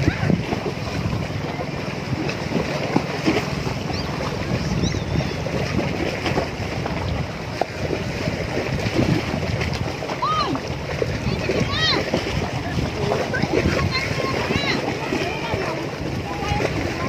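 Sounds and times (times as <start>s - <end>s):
waves washing against rocks: 0.0s - 17.0s
wind buffeting microphone: 0.0s - 17.0s.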